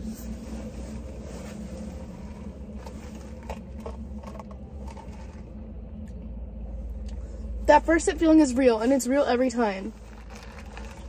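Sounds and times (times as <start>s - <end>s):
car engine idling hum: 0.0s - 11.0s.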